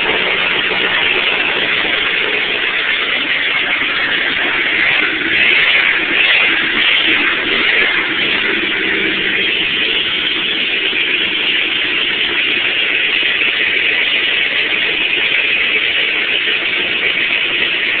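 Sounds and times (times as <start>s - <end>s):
loud car engine rumbling: 0.0s - 18.0s.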